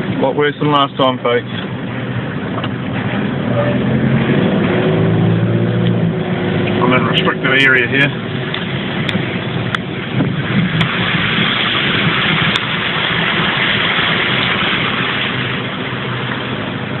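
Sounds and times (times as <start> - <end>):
car engine rumble: 0.0 - 17.0
road noise hiss: 0.0 - 17.0.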